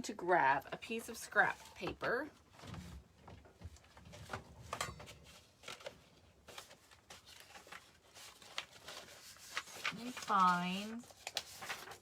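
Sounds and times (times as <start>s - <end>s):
paper rustling: 1.4s - 12.0s.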